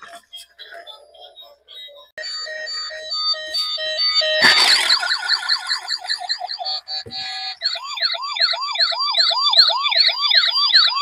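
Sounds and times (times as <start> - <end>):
toy police siren wailing: 0.0 - 11.0.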